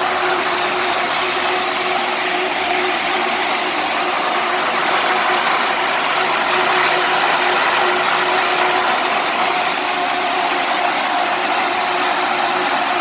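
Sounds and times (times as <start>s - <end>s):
baler machine running: 0.0s - 13.0s.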